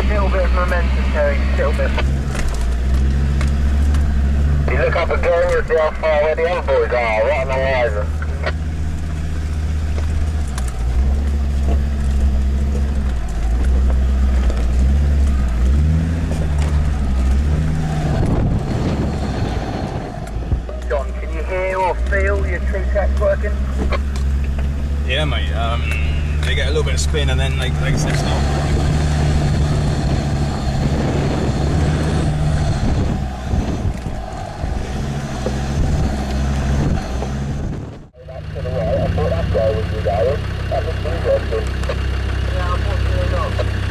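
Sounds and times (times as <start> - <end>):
diesel engine revving uphill: 0.0 - 43.9.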